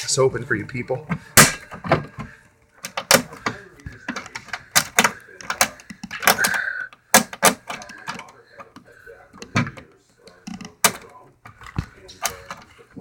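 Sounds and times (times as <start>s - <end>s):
plastic clips clicking: 1.4s - 12.8s.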